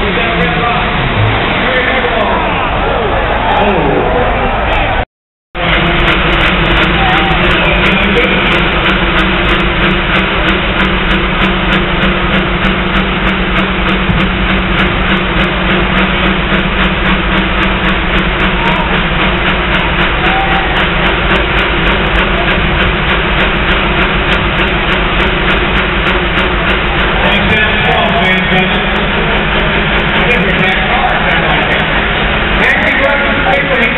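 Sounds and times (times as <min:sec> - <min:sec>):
tractor engine at full throttle: 0:00.0 - 0:04.2, 0:05.6 - 0:33.9.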